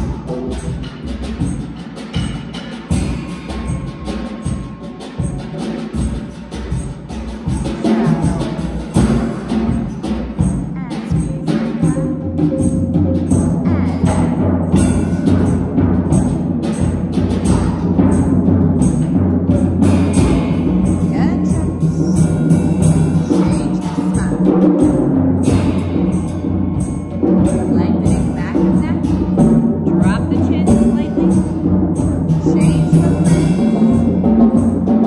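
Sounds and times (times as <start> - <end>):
drum strokes: 0.0 - 35.0.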